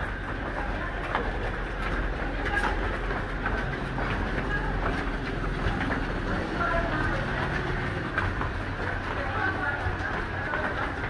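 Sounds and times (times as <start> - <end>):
running footsteps on concrete stairs: 0.0 - 11.0.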